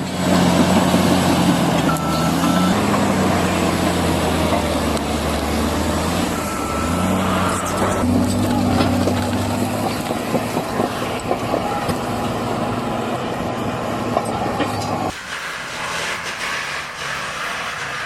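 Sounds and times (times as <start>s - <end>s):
diesel engine running under load: 0.0s - 18.0s.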